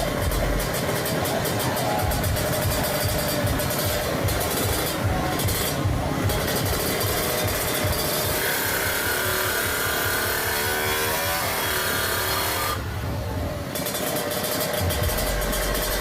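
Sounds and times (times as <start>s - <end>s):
high engine whine: 0.0s - 16.0s
motorcycle engine running: 0.0s - 16.0s.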